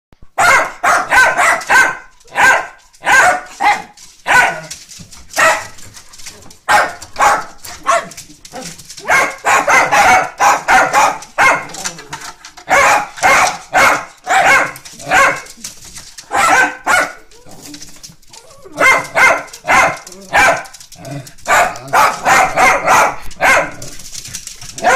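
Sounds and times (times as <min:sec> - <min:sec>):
dogs barking excitedly: 0:00.2 - 0:24.9.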